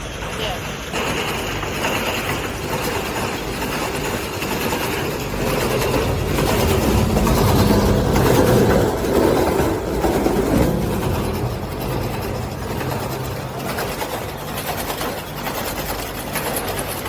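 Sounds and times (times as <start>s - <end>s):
machine rumbling and hissing: 0.0s - 17.0s.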